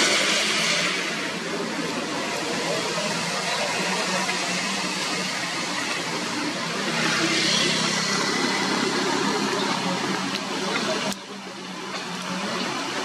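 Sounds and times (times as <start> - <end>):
tyre hiss on wet road: 0.0 - 10.6
diesel truck engine drone: 0.0 - 13.0.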